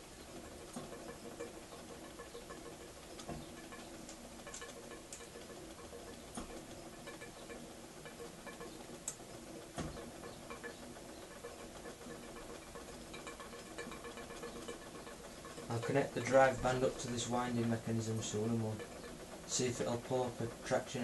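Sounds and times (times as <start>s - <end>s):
model steam engine ticking: 0.0s - 21.0s.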